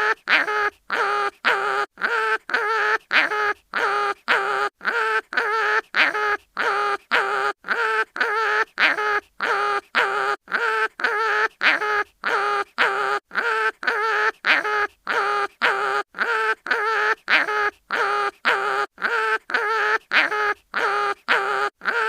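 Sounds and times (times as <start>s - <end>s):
cartoon animal yelping: 0.0s - 22.0s.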